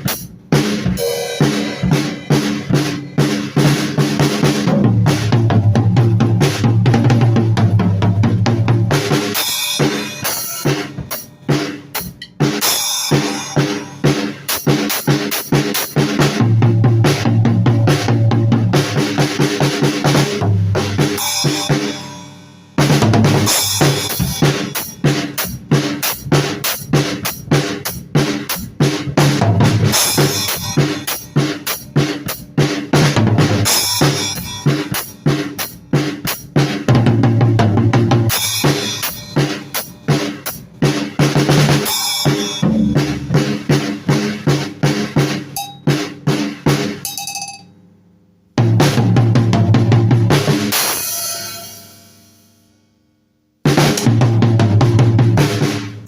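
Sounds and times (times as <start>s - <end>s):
drum kit playing: 0.0s - 52.6s, 53.6s - 56.0s.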